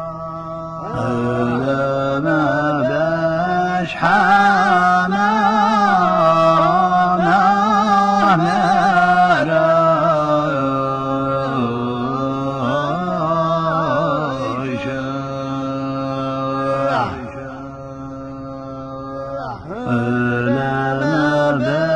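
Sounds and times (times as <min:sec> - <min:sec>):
man singing a chant: 0:00.0 - 0:21.9.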